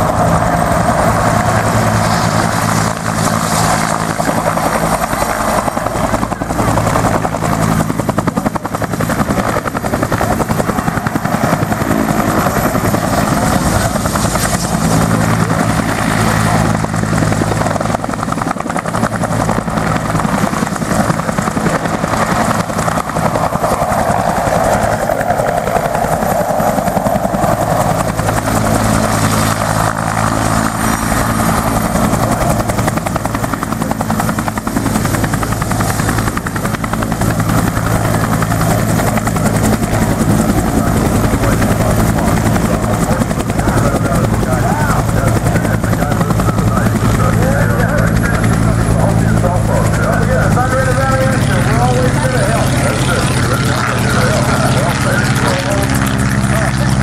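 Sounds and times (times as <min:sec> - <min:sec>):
helicopter rotor chopping: 0:00.0 - 0:57.0.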